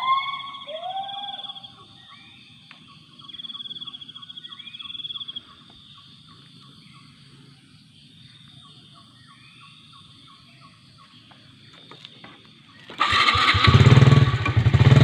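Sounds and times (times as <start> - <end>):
insect chirps: 0.0 - 13.6
rising insect calls: 0.0 - 14.7.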